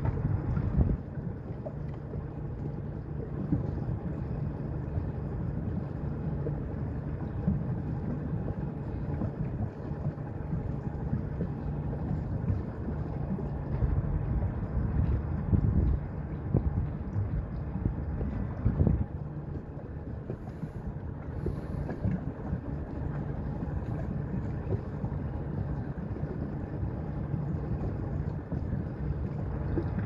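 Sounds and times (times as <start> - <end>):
water noise: 0.0 - 30.0
wind rumble on microphone: 0.0 - 30.0.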